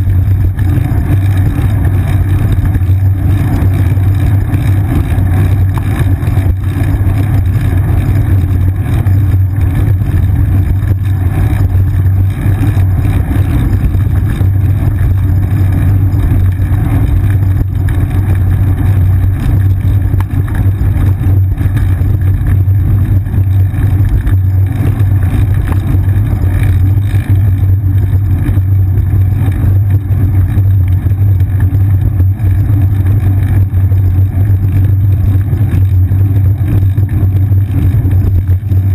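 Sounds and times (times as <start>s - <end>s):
bicycle road rumble and wind: 0.0s - 38.9s.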